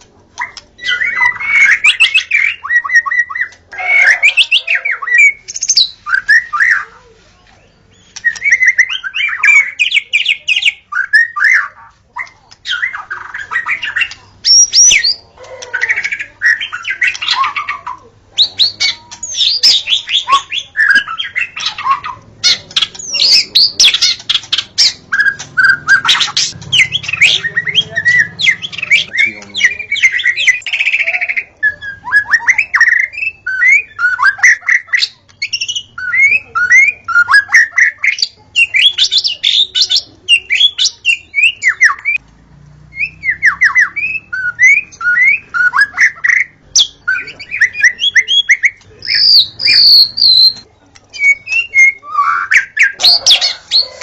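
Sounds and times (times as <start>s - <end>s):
songbird singing whistles and trills: 0.4s - 6.9s, 7.6s - 42.2s, 42.9s - 54.0s.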